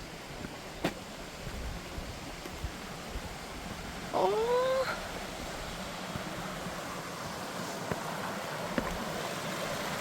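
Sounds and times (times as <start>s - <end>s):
brook flowing: 0.0s - 10.0s.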